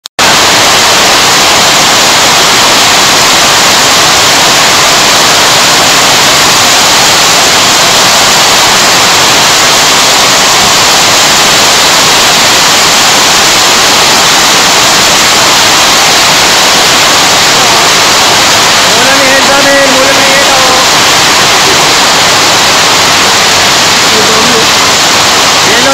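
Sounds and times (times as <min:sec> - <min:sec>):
heavy rain and hail: 0:00.2 - 0:25.9.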